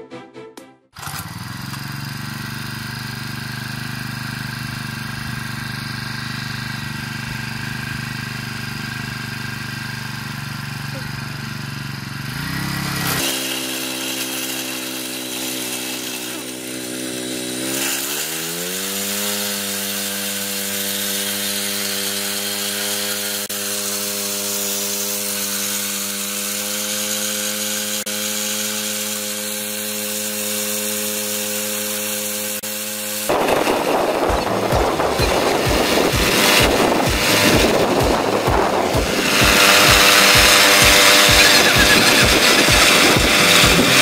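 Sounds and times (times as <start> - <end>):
small petrol engine running: 1.0 - 44.0.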